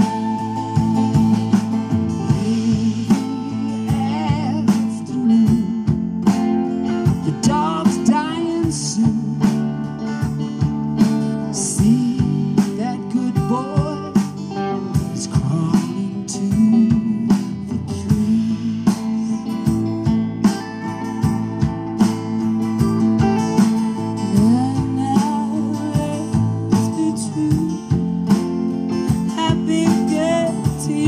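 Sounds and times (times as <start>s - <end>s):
drums and cymbals: 0.0s - 31.0s
electric guitar lead: 0.0s - 31.0s.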